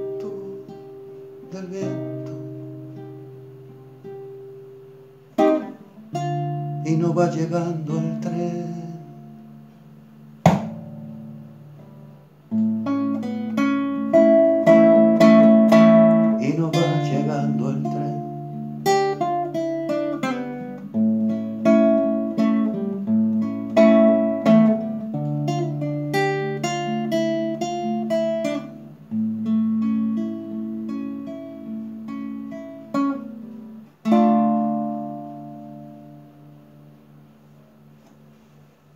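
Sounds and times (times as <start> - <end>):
classical guitar playing: 0.0 - 38.9.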